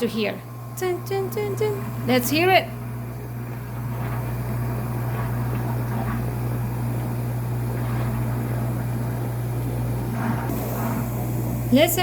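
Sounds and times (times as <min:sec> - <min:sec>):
dishwasher humming: 0:00.0 - 0:12.0
water rushing in dishwasher: 0:01.4 - 0:12.0.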